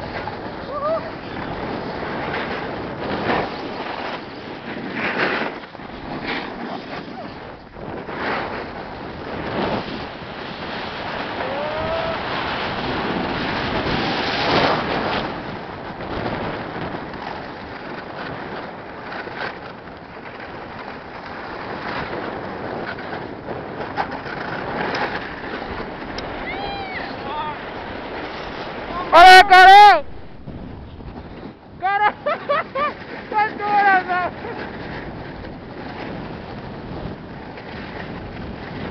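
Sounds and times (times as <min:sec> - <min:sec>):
snowboard scraping over snow: 0:00.0 - 0:38.9
wind rushing over microphone: 0:00.0 - 0:38.9.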